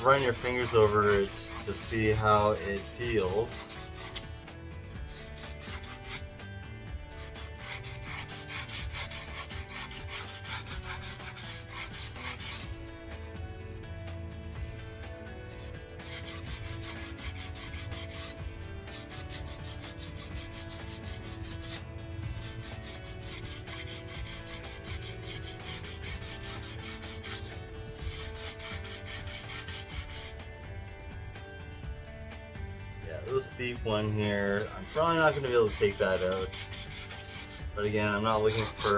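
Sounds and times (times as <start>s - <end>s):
sandpaper rasping on metal wheel: 0.0s - 14.0s, 14.6s - 30.6s, 33.4s - 38.9s.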